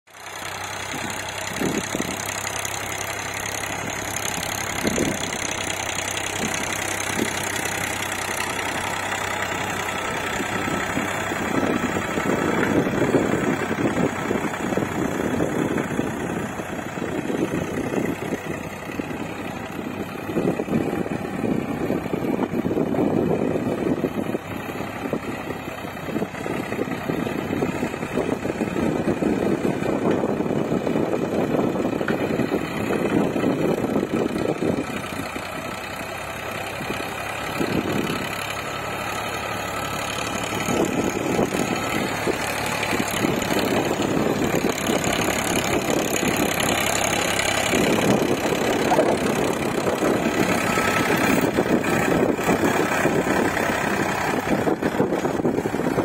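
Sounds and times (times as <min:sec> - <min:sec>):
tractor diesel engine running: 0:00.1 - 0:56.0.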